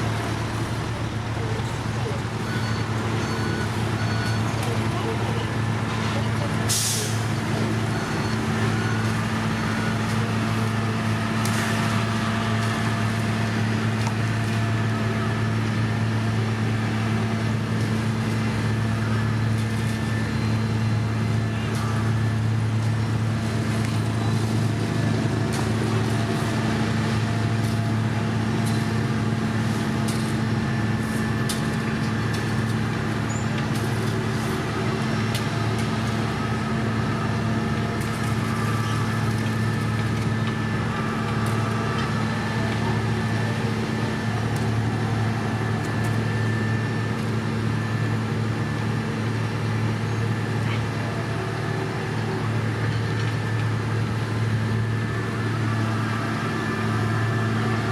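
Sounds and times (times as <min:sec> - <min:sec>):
diesel machinery droning: 0:00.0 - 0:57.9.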